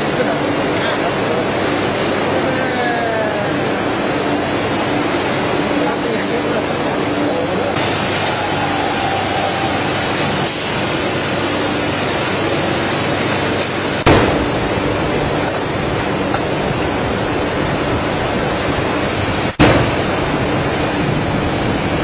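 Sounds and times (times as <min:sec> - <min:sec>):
loud machine noise: 0:00.0 - 0:22.0.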